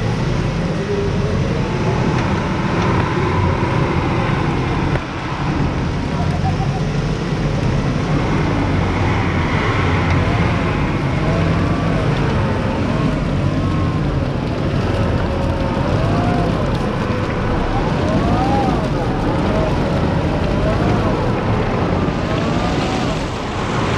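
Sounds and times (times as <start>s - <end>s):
vehicle engines running under load: 0.0s - 23.9s.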